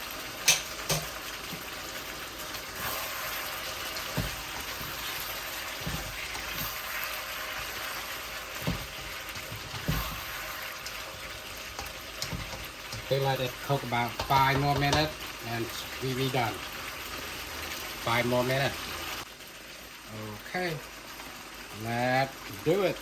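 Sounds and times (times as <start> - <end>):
food sizzling and bubbling in pan: 0.0 - 23.0.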